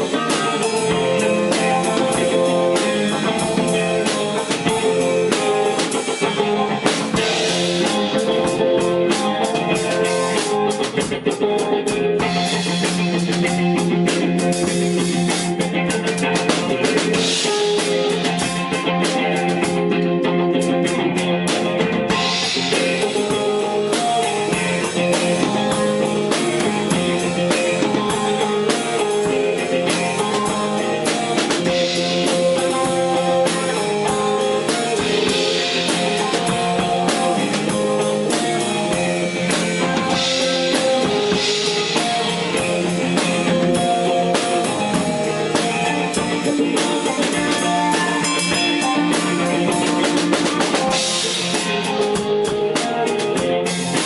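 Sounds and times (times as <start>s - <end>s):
live instrumental band music: 0.0s - 54.0s.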